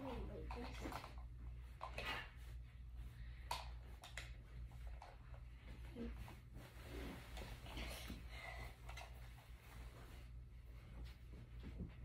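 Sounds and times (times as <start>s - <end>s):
steady low hum: 0.0s - 12.0s
faint rustling: 0.1s - 12.0s.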